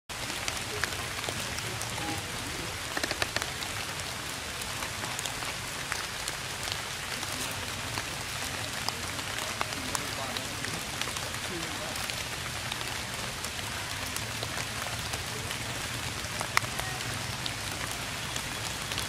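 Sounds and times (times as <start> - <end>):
raindrops ticking nearby: 0.1 - 19.0
steady rain: 0.1 - 19.0.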